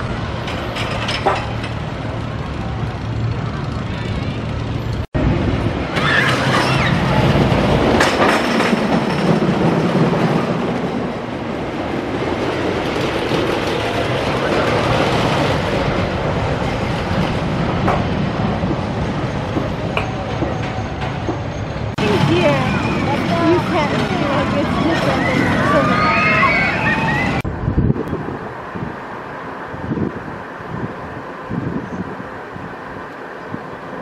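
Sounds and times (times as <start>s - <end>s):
roller coaster rumbling and clattering: 0.0s - 34.0s.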